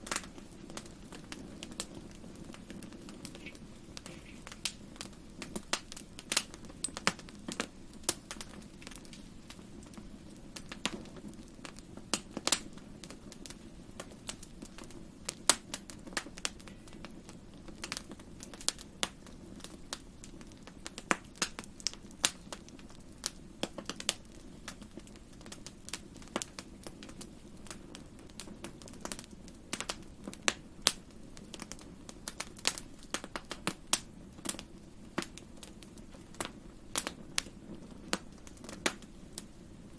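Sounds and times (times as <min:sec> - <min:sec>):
campfire pops and snaps: 0:00.0 - 0:39.9
fire burning rush: 0:00.0 - 0:39.9.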